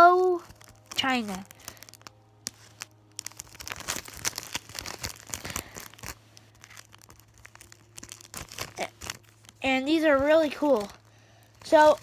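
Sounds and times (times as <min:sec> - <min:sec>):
packaging crinkling: 0:00.3 - 0:12.0.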